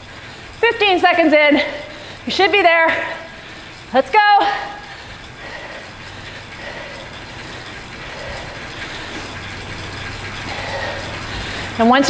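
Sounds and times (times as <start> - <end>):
bike trainer mechanical hum: 0.0 - 12.0.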